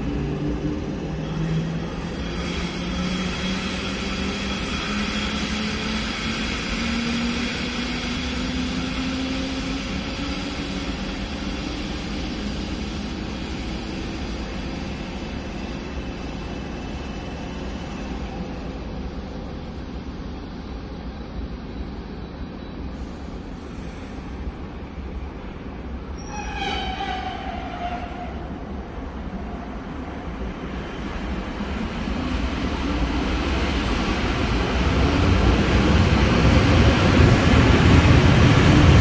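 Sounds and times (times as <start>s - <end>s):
idling trains rumble and hiss: 0.0s - 39.0s.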